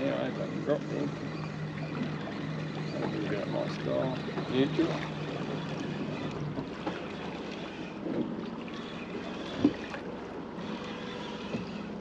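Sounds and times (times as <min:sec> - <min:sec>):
sea noise: 0:00.0 - 0:12.0
wind: 0:00.0 - 0:12.0.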